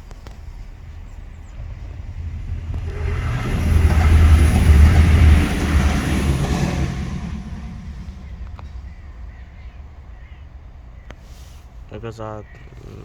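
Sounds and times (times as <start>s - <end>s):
train passing rumble and hiss: 0.0s - 13.0s.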